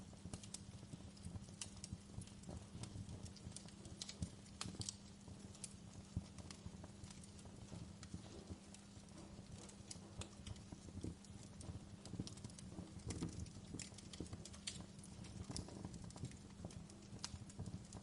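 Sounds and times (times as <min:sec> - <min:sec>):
fire pops and snaps: 0:00.0 - 0:18.0
low rumble of burning fire: 0:00.0 - 0:18.0.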